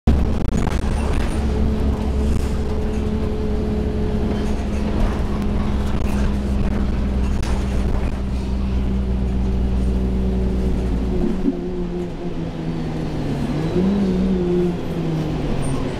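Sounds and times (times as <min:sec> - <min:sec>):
bus engine drone: 0:00.0 - 0:15.9.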